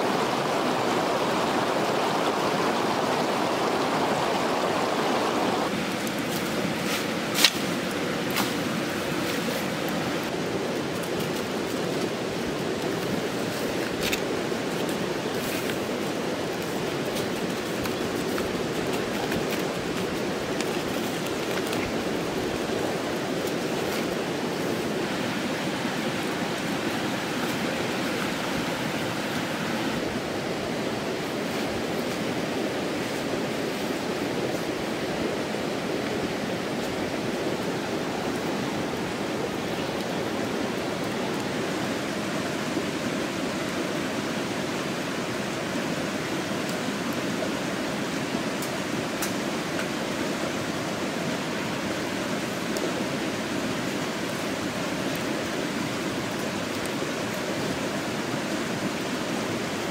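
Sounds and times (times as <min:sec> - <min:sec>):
rushing outdoor noise: 0:00.0 - 0:59.9.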